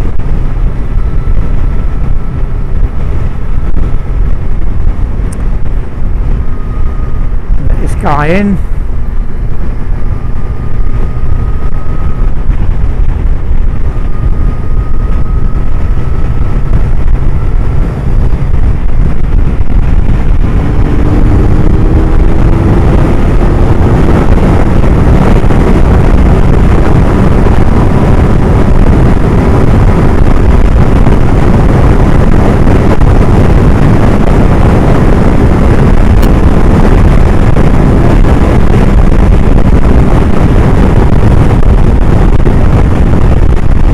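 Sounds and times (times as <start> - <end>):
motorcycle engine running: 0.0 - 43.9
wind noise rushing: 0.0 - 43.9.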